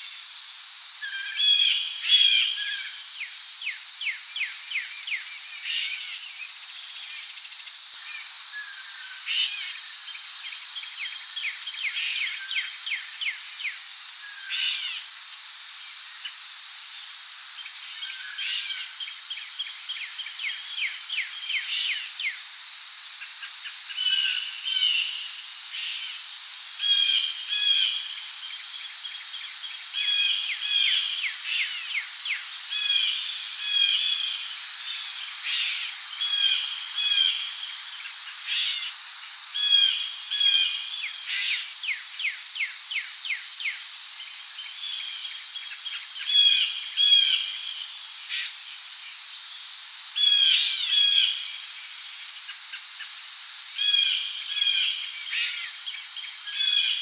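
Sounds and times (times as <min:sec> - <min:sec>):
crickets droning: 0:00.0 - 0:57.0.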